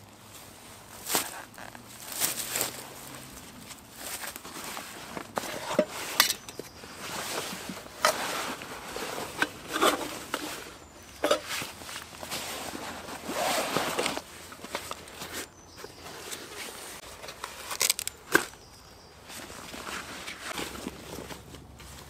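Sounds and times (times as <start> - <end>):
canvas bag rustling: 0.2 - 22.0.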